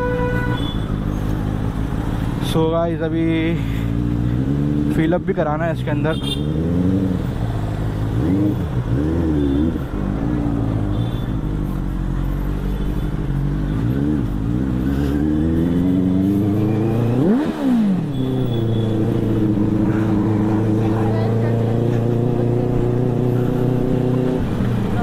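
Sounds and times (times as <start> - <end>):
motorcycle engine revving: 3.8 - 5.2, 6.2 - 25.0.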